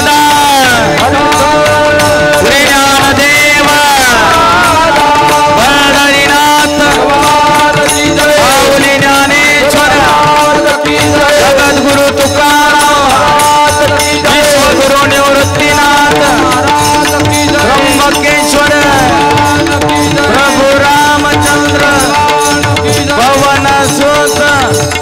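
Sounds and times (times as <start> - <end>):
devotional group singing: 0.0 - 24.7
hand drums playing rhythm: 0.0 - 25.0.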